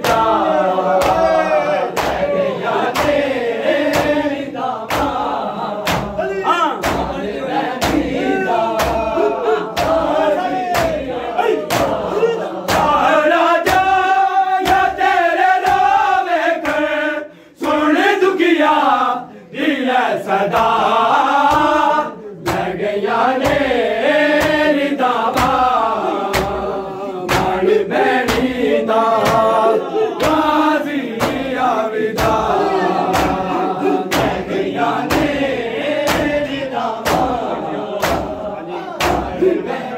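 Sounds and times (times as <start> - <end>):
men chanting in unison: 0.0 - 39.9
rhythmic chest-beating: 0.0 - 39.9.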